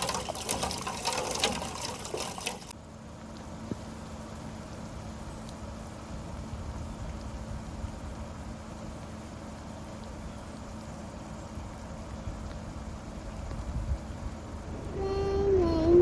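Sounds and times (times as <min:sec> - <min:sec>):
faint steady hum: 0:00.0 - 0:16.0
steady rain falling: 0:02.7 - 0:16.0.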